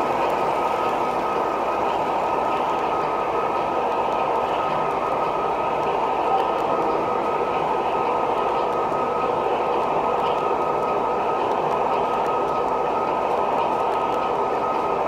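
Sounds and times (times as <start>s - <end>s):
model train cars rolling on track: 0.0s - 15.0s.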